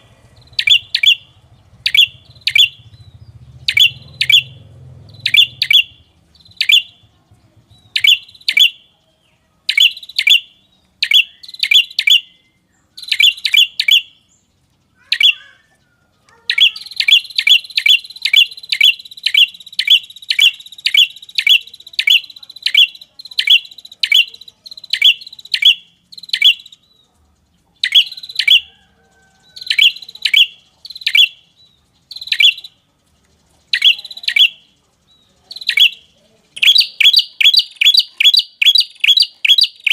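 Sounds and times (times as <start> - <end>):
sharp high bird chirps: 0.0 - 39.9.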